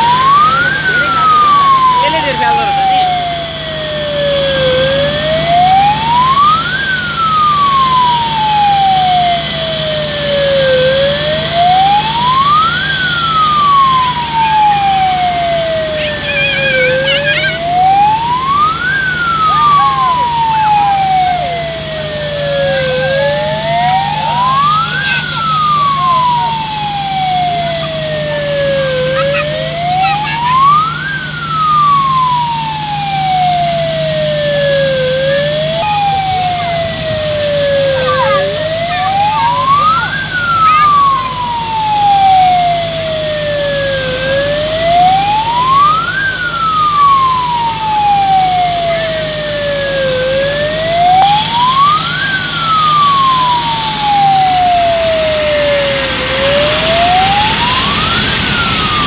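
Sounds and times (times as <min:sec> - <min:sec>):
fire truck siren wailing: 0:00.0 - 0:59.0.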